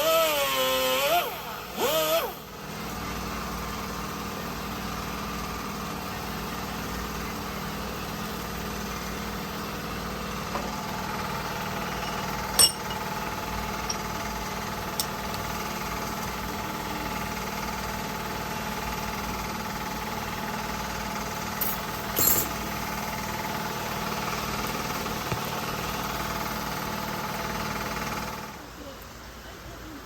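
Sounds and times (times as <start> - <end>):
engine idling: 1.6 - 28.7.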